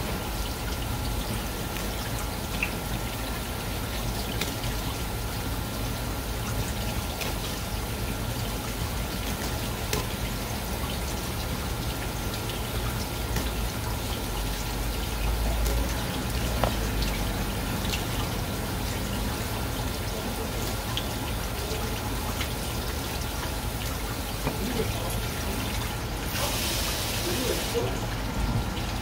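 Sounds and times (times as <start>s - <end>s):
water running from a tap: 0.0s - 29.0s.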